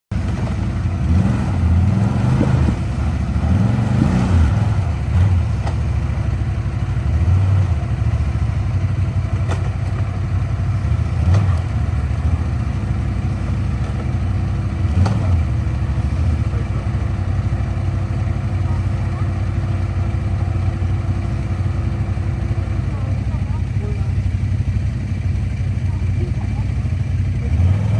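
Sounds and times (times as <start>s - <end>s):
small engine revving and idling: 0.1s - 27.9s.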